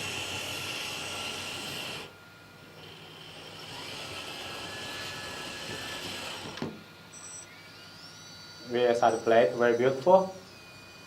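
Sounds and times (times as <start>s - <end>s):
toy excavator motor whine: 0.0s - 11.0s.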